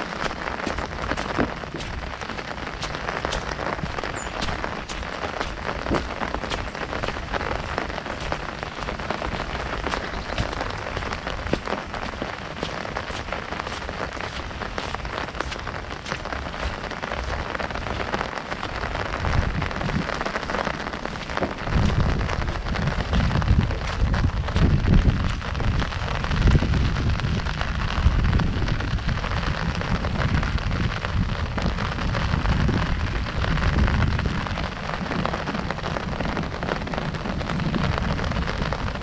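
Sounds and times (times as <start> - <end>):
heavy rain on an umbrella: 0.0 - 39.0.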